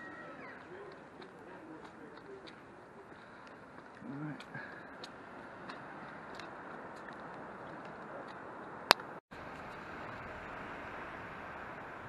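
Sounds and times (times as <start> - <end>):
town street background noise: 0.0 - 12.0.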